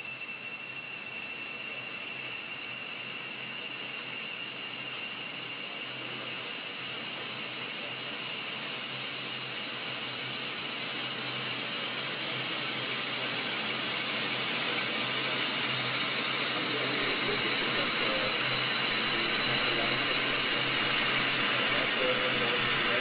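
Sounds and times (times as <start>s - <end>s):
lathe mechanical whir: 0.0s - 23.0s.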